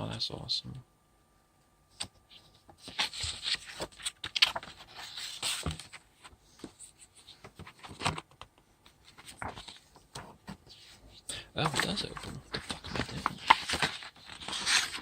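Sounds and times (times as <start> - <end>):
paper and cardboard rustling: 2.0 - 15.0.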